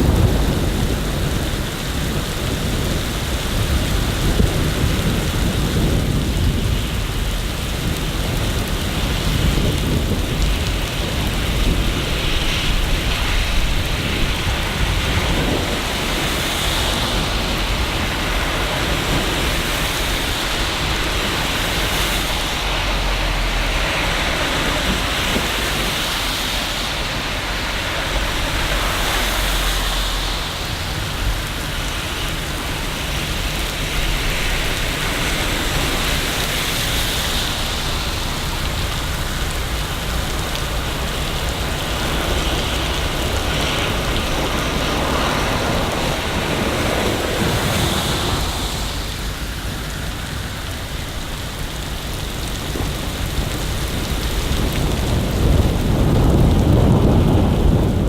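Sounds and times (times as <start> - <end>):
rolling thunder: 0.0 - 58.0
steady rain falling: 0.0 - 58.0.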